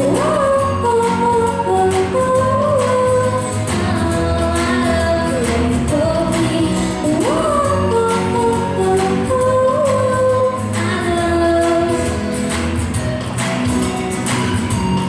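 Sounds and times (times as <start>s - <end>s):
woman singing pop song: 0.0s - 13.1s
instrumental backing with beat: 0.0s - 15.0s.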